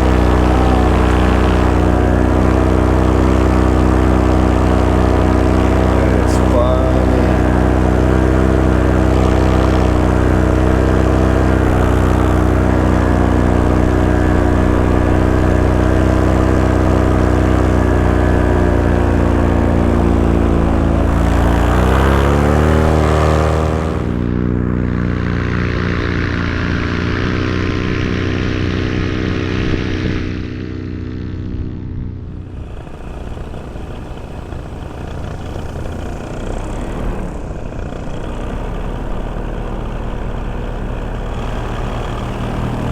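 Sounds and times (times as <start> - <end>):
paramotor engine and propeller: 0.0 - 42.9.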